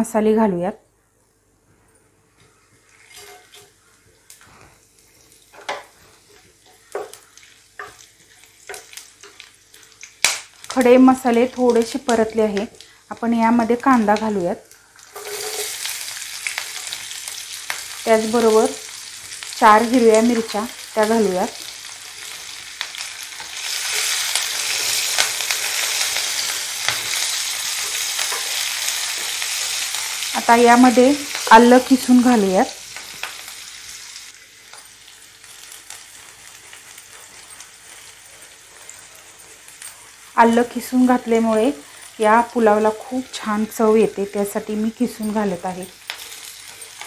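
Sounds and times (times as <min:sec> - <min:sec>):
spices sizzling in hot oil: 0:02.6 - 0:47.0.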